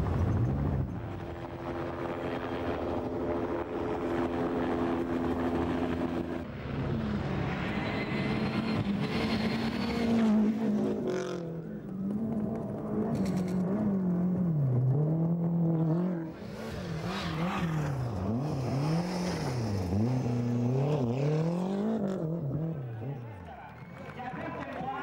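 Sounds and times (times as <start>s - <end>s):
vehicle engines droning: 0.0s - 25.0s.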